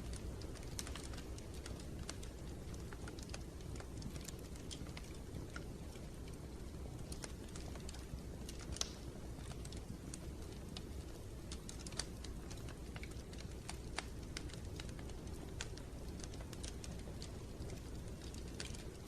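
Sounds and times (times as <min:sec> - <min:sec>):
low steady rumble: 0:00.0 - 0:19.0
wood fire crackling: 0:00.0 - 0:19.0.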